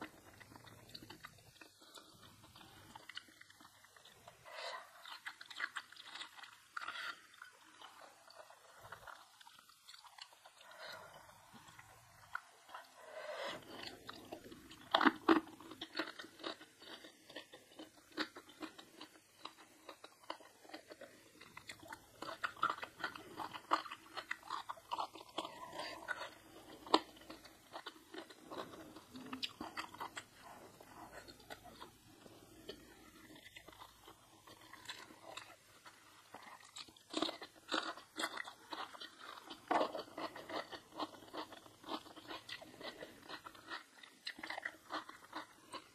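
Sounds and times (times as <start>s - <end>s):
person chewing and crunching: 0.0s - 45.9s.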